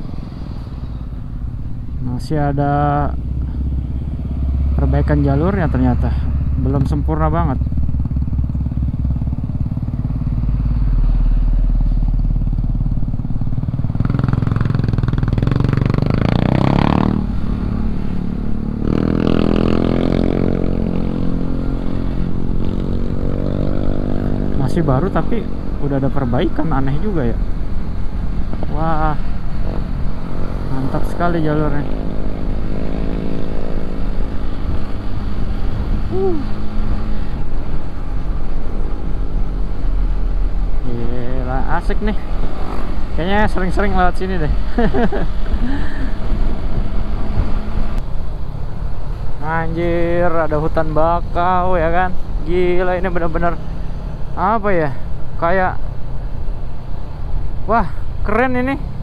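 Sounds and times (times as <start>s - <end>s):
motorcycle engine revving: 0.0s - 48.4s
low wind rumble: 0.0s - 59.0s.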